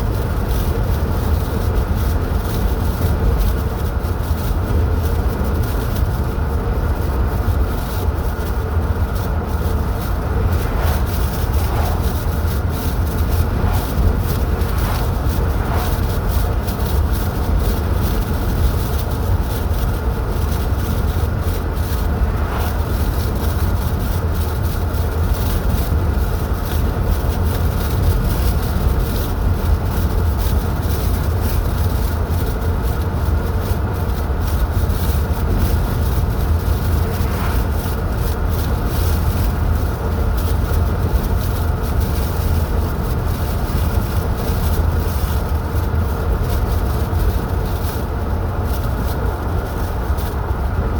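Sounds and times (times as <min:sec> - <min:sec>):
car road noise rumble: 0:00.0 - 0:50.9.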